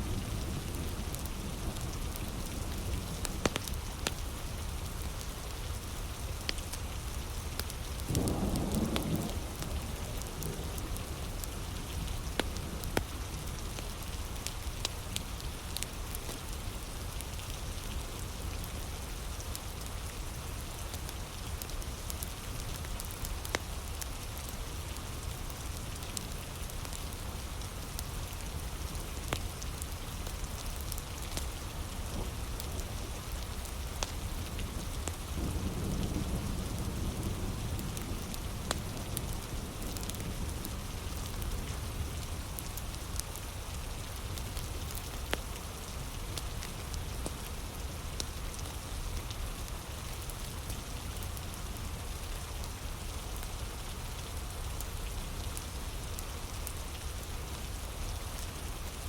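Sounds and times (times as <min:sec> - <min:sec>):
heavy rain falling: 0:00.0 - 0:59.0
wood fire crackling: 0:00.2 - 0:59.0.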